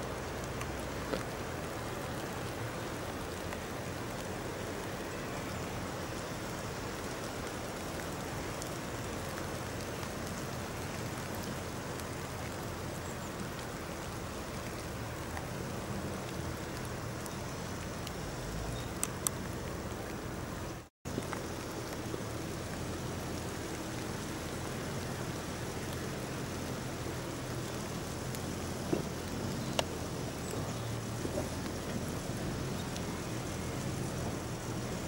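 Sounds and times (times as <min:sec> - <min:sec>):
rain on trees: 0:00.0 - 0:35.0.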